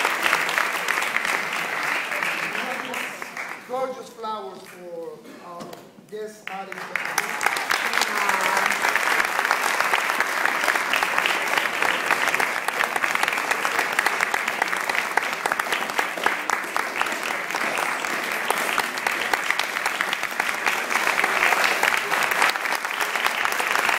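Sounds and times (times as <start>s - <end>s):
audience applauding: 0.0s - 4.1s, 6.4s - 23.9s.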